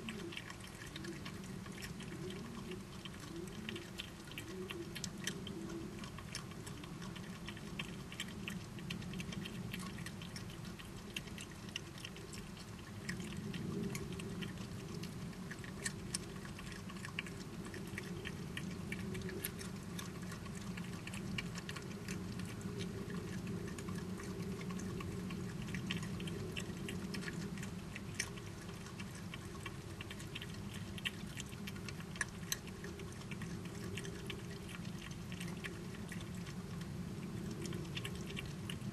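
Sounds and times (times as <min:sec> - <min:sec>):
badgers chewing and crunching: 0:00.0 - 0:38.9
steady low hum: 0:00.0 - 0:38.9.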